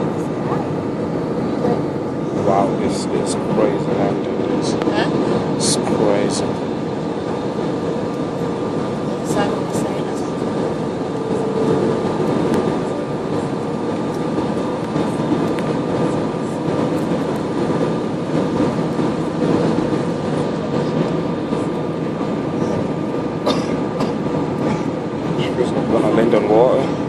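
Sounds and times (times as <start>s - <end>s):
jet engine and airflow noise: 0.0s - 27.0s.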